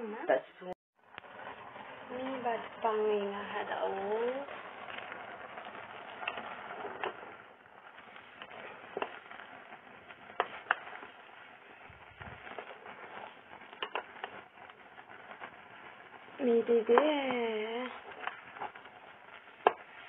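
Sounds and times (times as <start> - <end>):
pot boiling over gas flame: 0.0 - 20.0.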